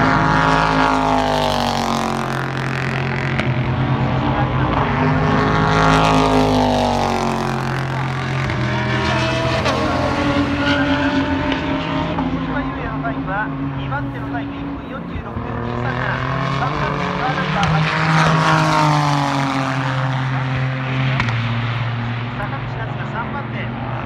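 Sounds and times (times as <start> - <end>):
racing car engines passing: 0.0 - 24.0.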